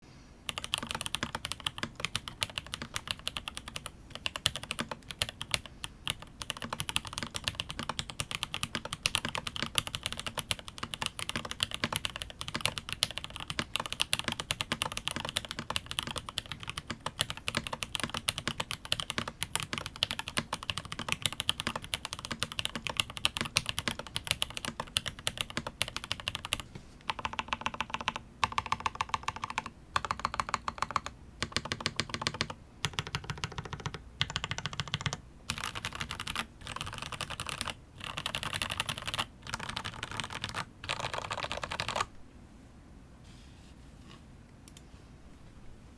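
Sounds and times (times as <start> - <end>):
fast typing on mechanical keyboard: 0.5 - 42.1.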